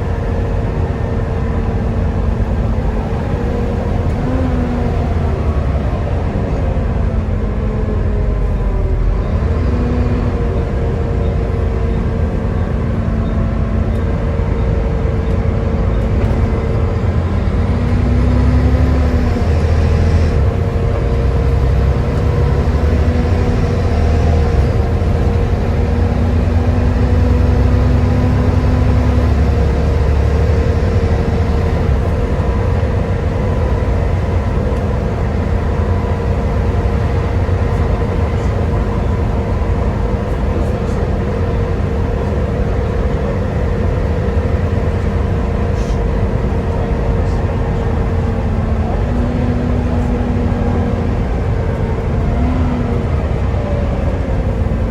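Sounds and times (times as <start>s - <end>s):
bus diesel engine drone: 0.0s - 54.9s
engine whine: 0.0s - 54.9s.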